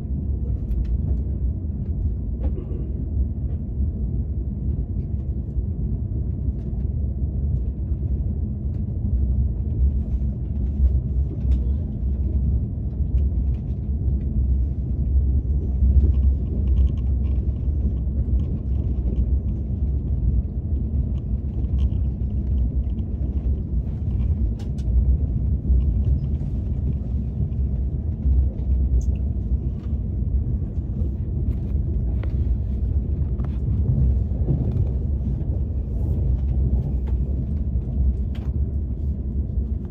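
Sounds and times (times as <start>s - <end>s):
train cabin low rumble: 0.0s - 39.9s.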